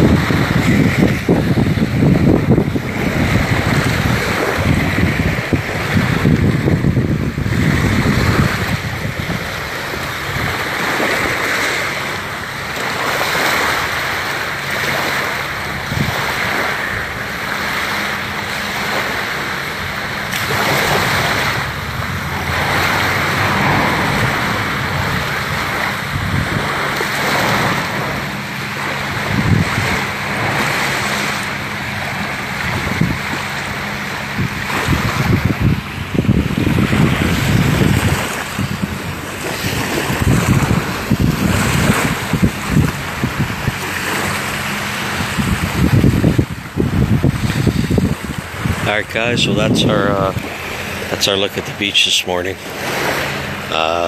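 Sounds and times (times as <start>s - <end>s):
wind buffeting microphone: 0.0s - 53.7s
small waves washing on shore: 0.0s - 54.0s.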